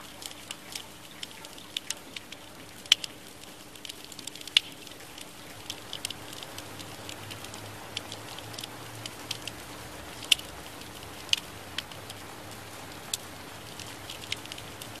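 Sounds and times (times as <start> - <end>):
rain hiss: 0.0 - 15.0
sharp drip ticks: 0.0 - 15.0.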